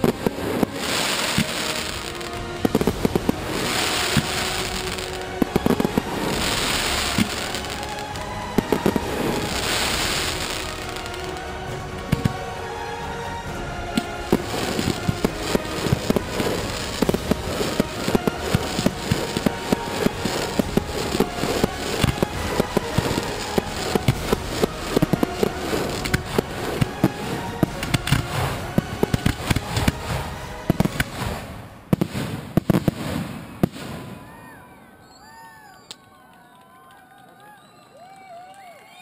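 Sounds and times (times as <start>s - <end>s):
fireworks bangs: 0.0s - 35.1s.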